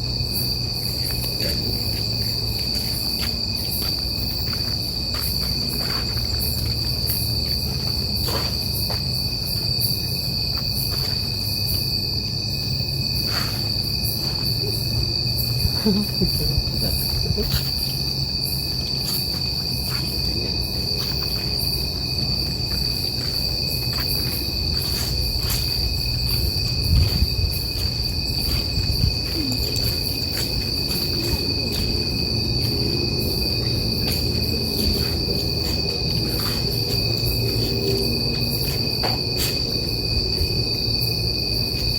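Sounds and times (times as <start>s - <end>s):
insects chirring chorus: 0.0s - 41.9s.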